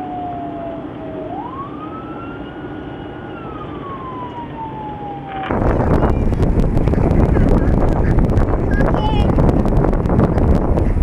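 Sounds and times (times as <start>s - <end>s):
muffled emergency siren wailing: 0.0s - 9.0s.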